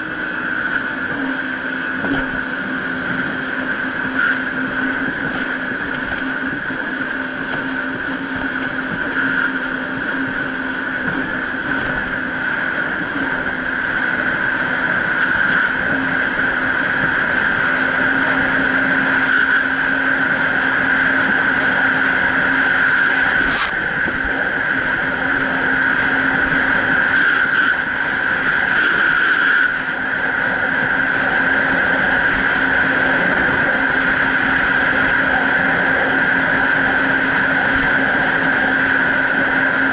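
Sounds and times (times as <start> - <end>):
jet ski engine droning: 0.0 - 39.9
rushing water: 0.0 - 39.9
wind noise: 0.0 - 39.9.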